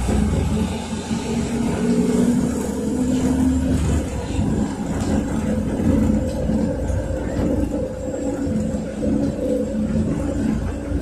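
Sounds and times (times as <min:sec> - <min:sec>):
bus engine humming: 0:00.0 - 0:11.0
road and tyre noise: 0:00.0 - 0:11.0.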